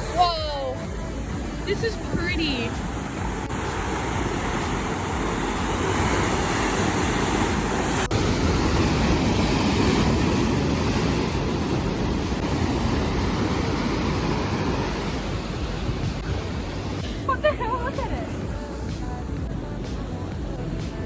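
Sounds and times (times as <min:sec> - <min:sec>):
ocean surf washing ashore: 0:00.0 - 0:21.0.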